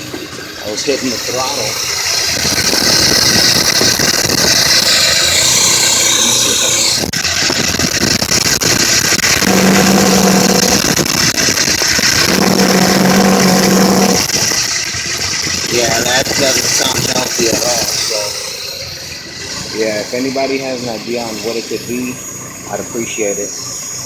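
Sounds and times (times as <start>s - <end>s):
rotary engine revving: 0.0s - 24.0s.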